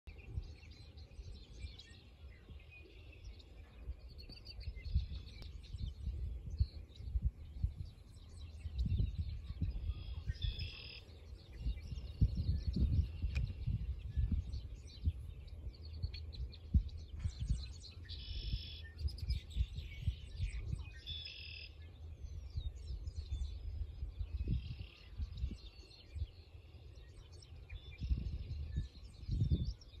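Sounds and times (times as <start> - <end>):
wind buffeting microphone: 0.1 - 21.1, 22.0 - 30.0
songbirds singing and calling: 0.1 - 30.0.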